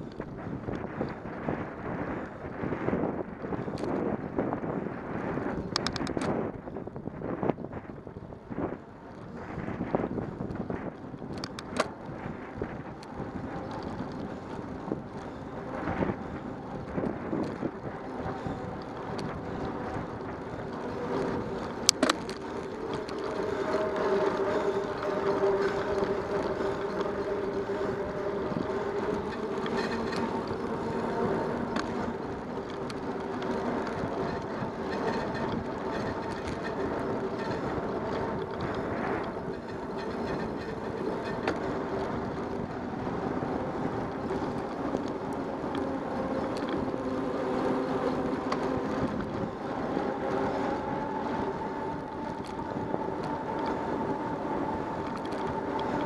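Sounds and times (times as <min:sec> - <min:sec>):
bicycle tyre rumble on asphalt: 0:00.0 - 0:56.0
sharp clicks from bicycle: 0:00.0 - 0:56.0
wind on microphone: 0:00.0 - 0:56.0.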